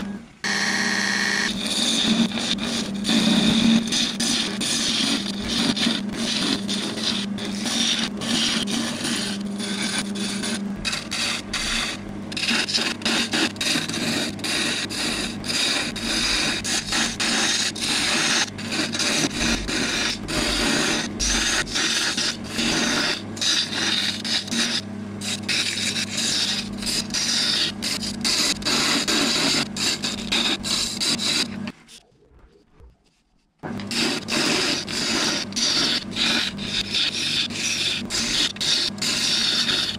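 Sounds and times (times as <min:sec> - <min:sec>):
lathe humming: 0:00.0 - 0:32.0, 0:33.6 - 0:39.9
gouge scraping spinning wood: 0:00.0 - 0:39.9.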